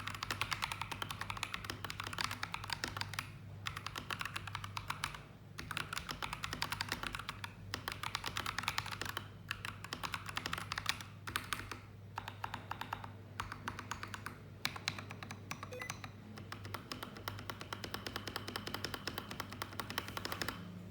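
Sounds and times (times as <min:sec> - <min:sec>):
mechanical keyboard typing: 0:00.0 - 0:20.7.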